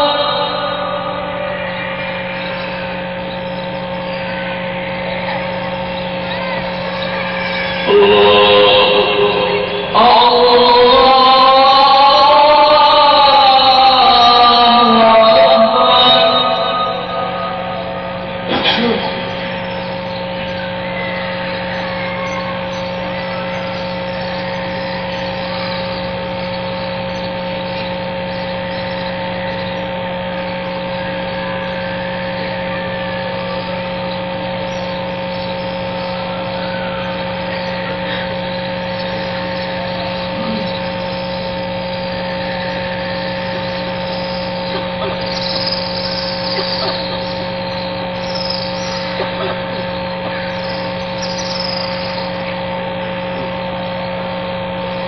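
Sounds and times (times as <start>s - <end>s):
broadcast feed hum and hiss: 0.0s - 55.0s
constant electronic tones: 0.0s - 55.0s
faint voices: 0.0s - 55.0s.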